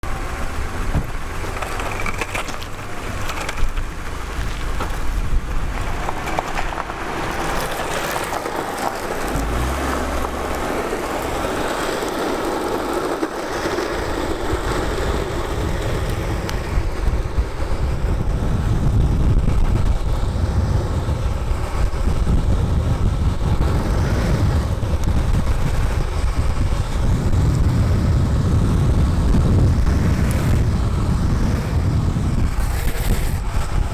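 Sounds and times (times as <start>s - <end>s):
skateboard wheels rolling on pavement: 0.0s - 33.9s
wind on microphone: 0.0s - 33.9s.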